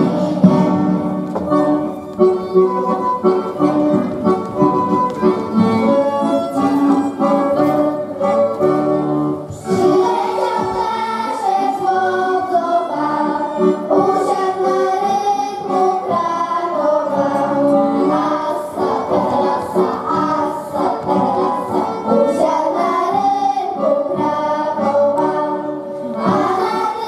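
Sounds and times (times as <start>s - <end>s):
group singing folk song: 0.0s - 1.6s, 4.6s - 27.0s
instrumental accompaniment: 0.0s - 27.0s.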